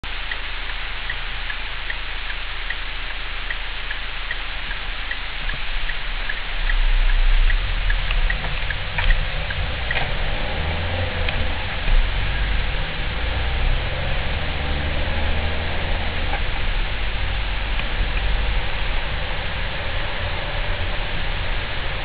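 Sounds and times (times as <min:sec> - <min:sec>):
low rumble: 0:00.0 - 0:22.0
steady hiss: 0:00.0 - 0:22.0
two-pitch ticking: 0:00.0 - 0:22.0.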